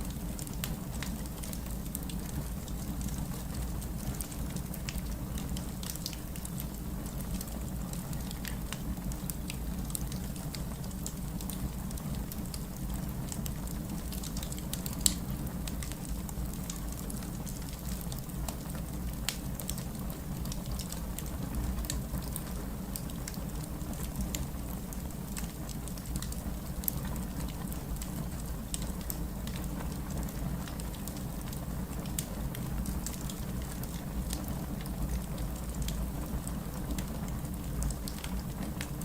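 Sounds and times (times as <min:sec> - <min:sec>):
fireplace fire crackling: 0:00.0 - 0:39.0.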